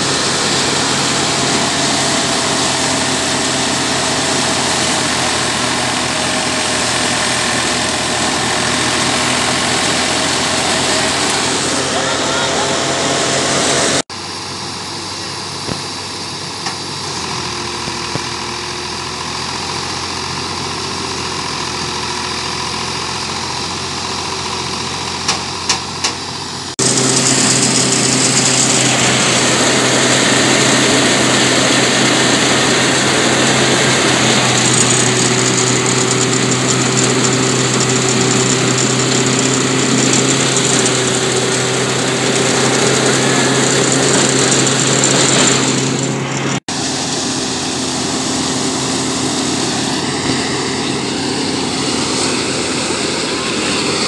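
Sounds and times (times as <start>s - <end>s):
engine drone: 0.0s - 54.0s
straw and grain rushing through thresher: 0.0s - 54.0s.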